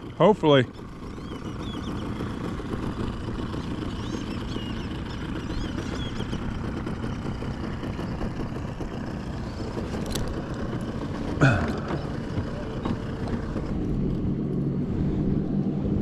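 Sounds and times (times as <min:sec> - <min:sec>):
boat motor idling: 0:00.0 - 0:16.0.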